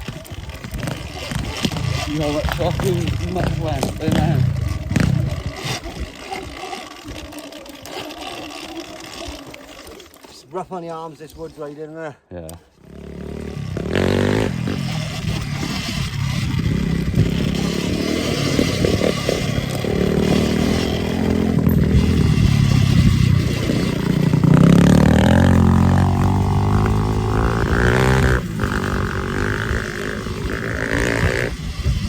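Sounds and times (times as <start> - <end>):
electric motor whine: 0.0 - 10.3, 12.8 - 32.0
bike rattling and scraping: 0.0 - 32.0.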